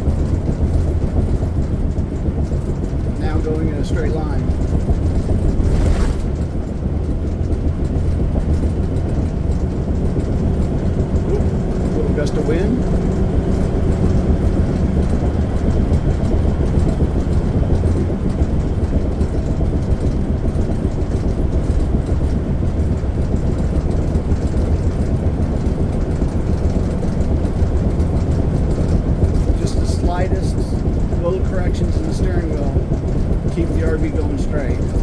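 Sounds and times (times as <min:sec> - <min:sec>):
engine and road noise drone: 0:00.0 - 0:35.0.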